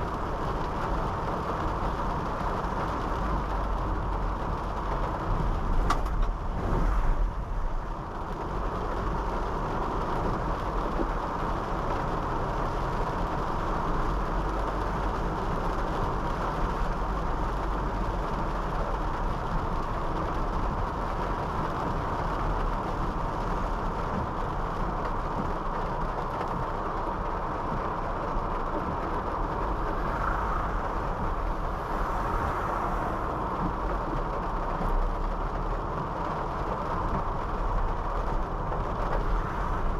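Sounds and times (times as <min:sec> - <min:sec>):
car engine and tyre noise: 0:00.0 - 0:39.9
tyres hissing on wet road: 0:00.0 - 0:39.9.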